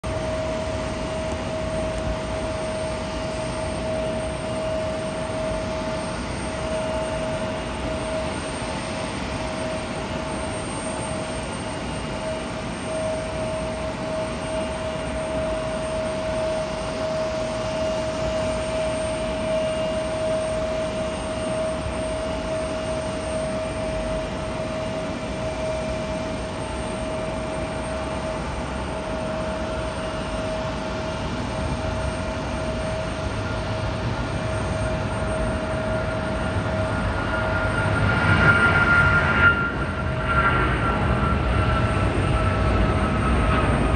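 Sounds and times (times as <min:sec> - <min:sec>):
distant jet engines running: 0:00.0 - 0:43.9.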